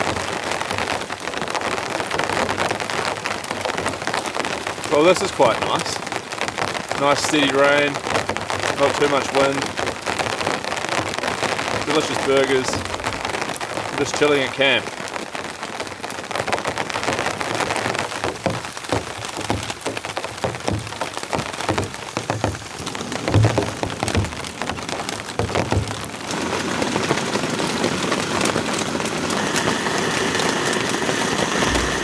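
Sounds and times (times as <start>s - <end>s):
rain pattering on a tarp: 0.0s - 32.0s.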